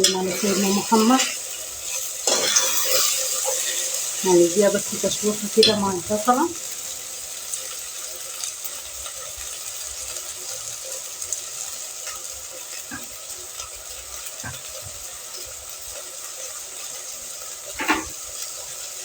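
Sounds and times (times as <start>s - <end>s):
vegetables sizzling in a pan: 0.0s - 19.0s.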